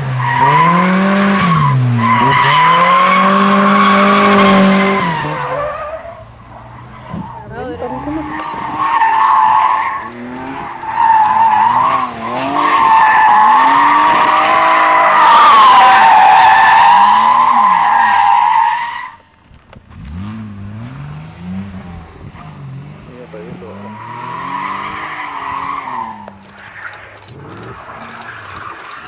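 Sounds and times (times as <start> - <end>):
car engine revving: 0.0 - 18.9, 19.9 - 29.0
tyres screeching: 0.2 - 19.2, 23.2 - 29.0.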